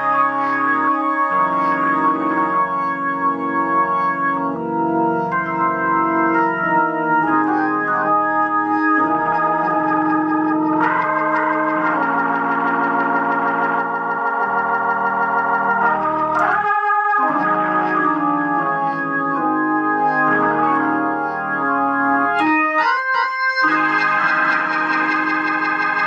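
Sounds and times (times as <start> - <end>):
organ playing held chords: 0.0 - 26.0.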